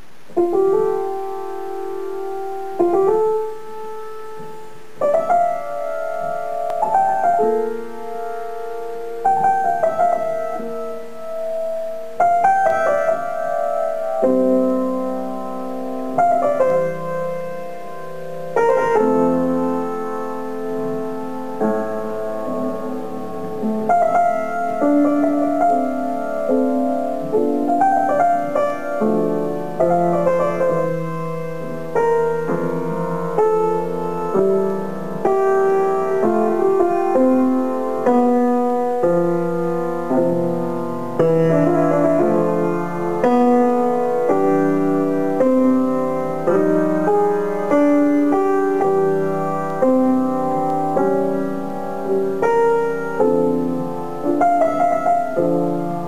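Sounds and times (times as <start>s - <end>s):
solo piano piece: 0.0s - 56.0s.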